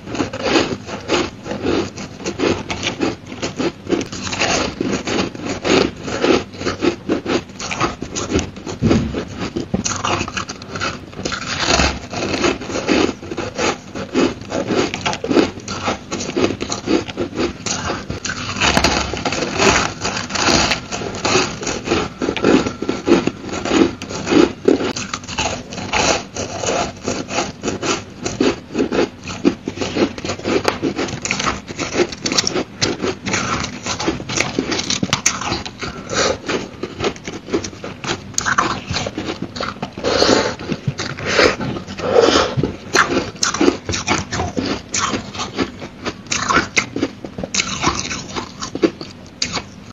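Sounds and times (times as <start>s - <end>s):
chewing crushed ice: 0.0s - 49.9s.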